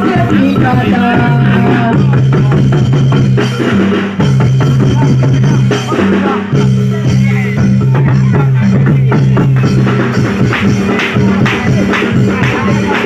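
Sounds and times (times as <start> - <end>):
drums beating quickly: 0.0 - 13.0
live ensemble music: 0.0 - 13.0.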